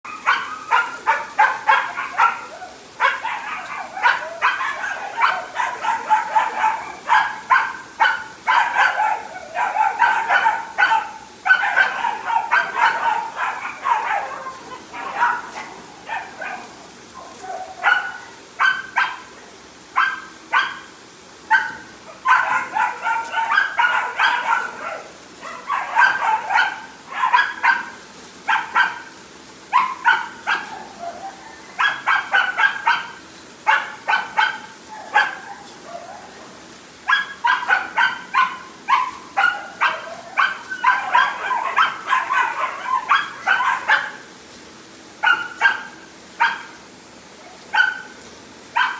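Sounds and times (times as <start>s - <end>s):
puppy barking: 0.0s - 20.9s, 21.5s - 44.3s, 45.2s - 46.8s, 47.4s - 48.9s.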